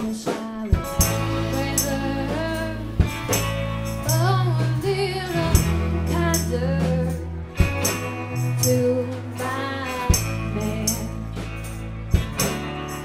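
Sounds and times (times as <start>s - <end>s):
woman singing: 0.0s - 3.4s, 4.0s - 11.8s
live rock band playing: 0.0s - 13.0s
tambourine shaken and struck: 0.7s - 13.0s.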